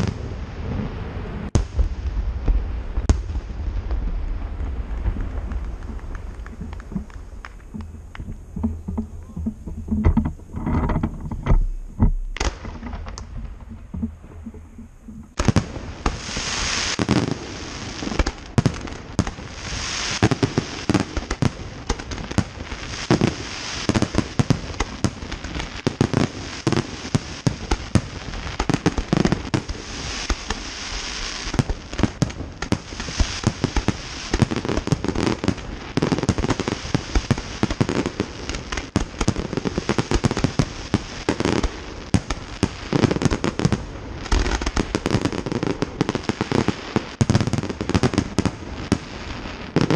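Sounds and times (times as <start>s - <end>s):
fireworks crackling hiss: 0.0s - 49.9s.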